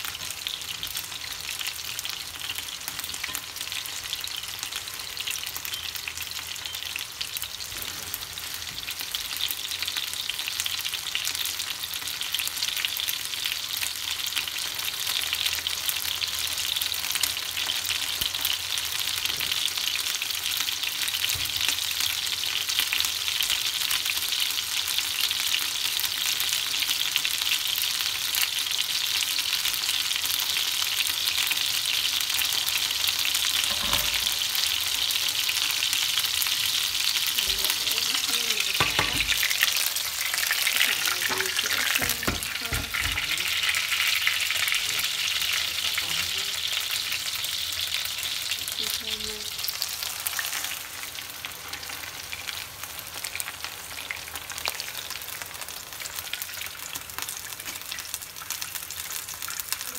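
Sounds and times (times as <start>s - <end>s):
chicken sizzling in a frying pan: 0.0s - 59.9s.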